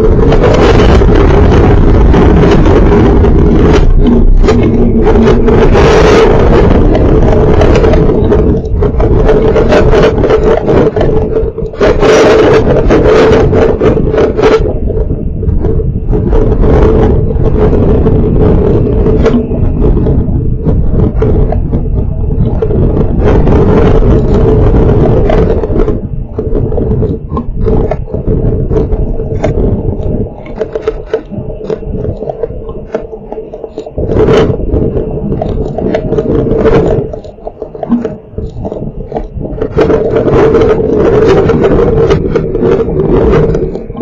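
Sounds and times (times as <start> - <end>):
heavy rain: 0.0 - 44.0
wind gusts buffeting microphone: 0.0 - 44.0.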